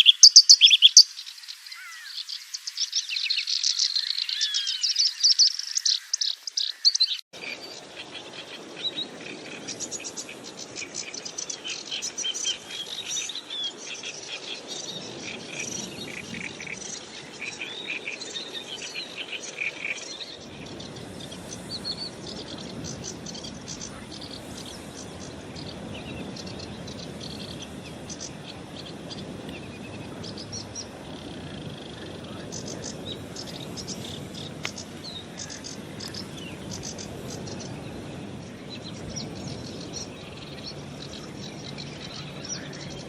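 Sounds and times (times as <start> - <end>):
bird singing chattering song: 0.0 - 9.0, 9.8 - 43.0
steady background hiss: 7.4 - 43.0.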